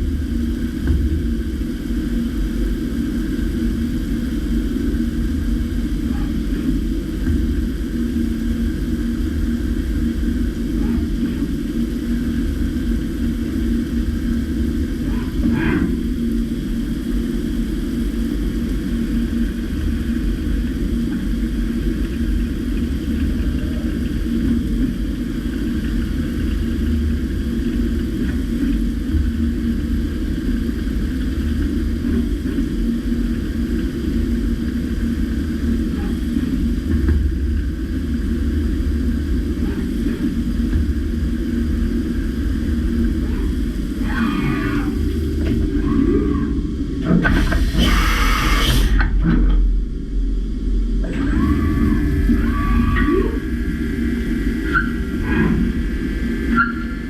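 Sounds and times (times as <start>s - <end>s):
milling machine rumbling: 0.0s - 57.0s.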